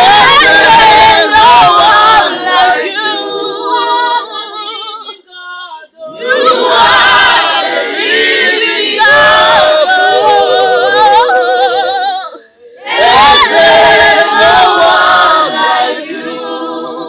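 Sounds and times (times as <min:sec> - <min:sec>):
group singing a cappella: 0:00.0 - 0:05.3, 0:06.0 - 0:17.0.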